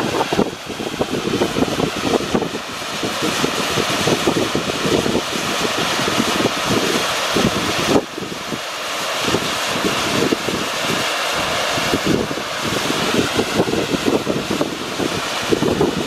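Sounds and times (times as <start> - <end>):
wind buffeting microphone: 0.0 - 8.6, 9.2 - 16.0
steam hissing from vent: 0.0 - 16.0.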